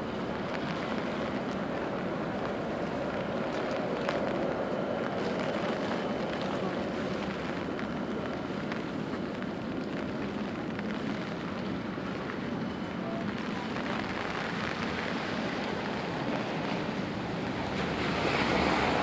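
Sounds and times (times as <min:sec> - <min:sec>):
rain: 0:00.0 - 0:19.0
traffic on wet roads: 0:00.0 - 0:19.0.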